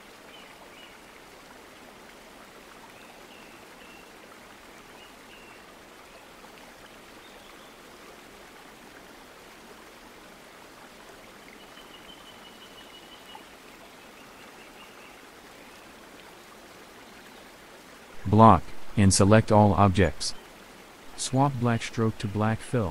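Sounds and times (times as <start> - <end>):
faint steady hiss: 0.0 - 22.9.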